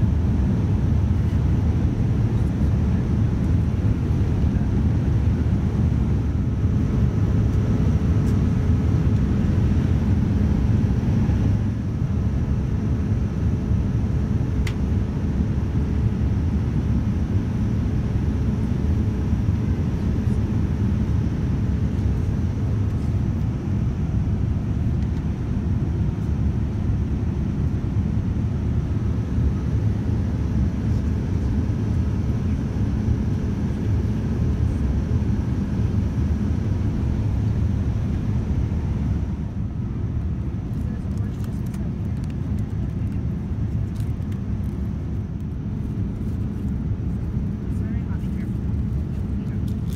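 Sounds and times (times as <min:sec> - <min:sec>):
airliner cabin rumble: 0:00.0 - 0:49.9.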